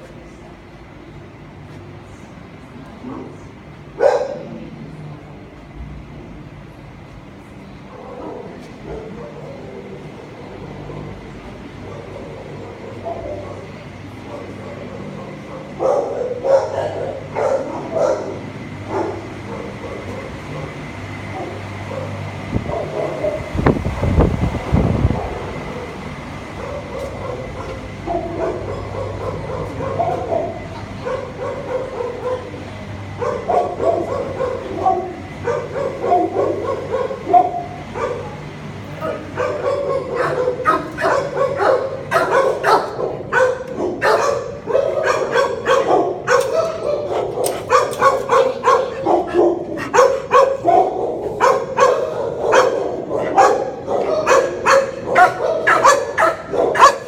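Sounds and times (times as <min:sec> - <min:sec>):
dogs barking: 0:03.9 - 0:04.6, 0:07.9 - 0:57.0.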